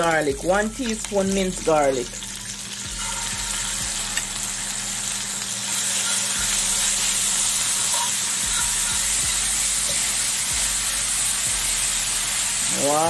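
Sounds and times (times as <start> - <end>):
oil and garlic sizzling in skillet: 0.0 - 13.0.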